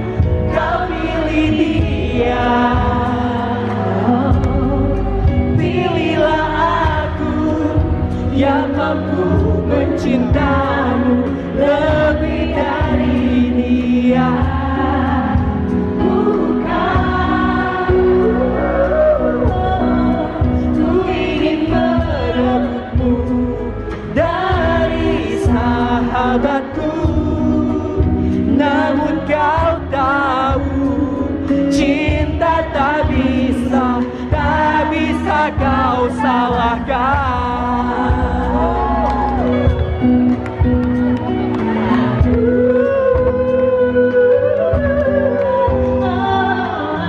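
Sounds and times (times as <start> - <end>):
audience singing along: 0.0 - 47.0
live band playing: 0.0 - 47.0
woman singing into microphone: 0.0 - 47.0.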